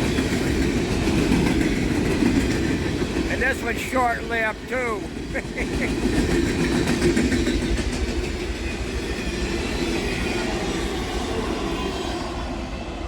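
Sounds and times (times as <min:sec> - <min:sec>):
freight train cars rolling past: 0:00.0 - 0:13.0.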